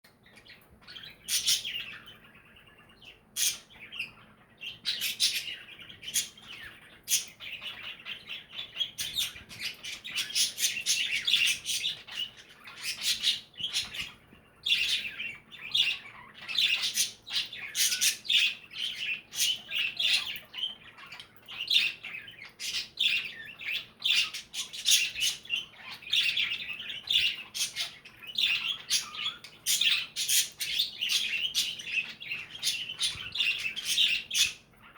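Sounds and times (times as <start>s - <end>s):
budgies chattering and chirping: 0.1s - 34.9s.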